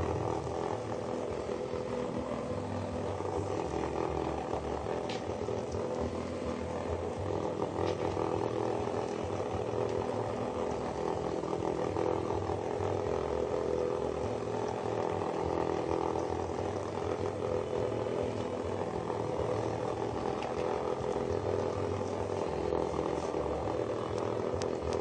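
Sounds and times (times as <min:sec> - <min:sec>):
vibrating toys buzzing: 0:00.0 - 0:25.0.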